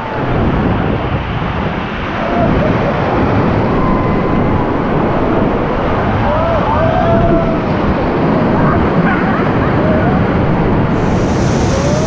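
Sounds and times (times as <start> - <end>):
whitewater rapids roaring: 0.0 - 12.0
wind buffeting microphone: 0.0 - 12.0.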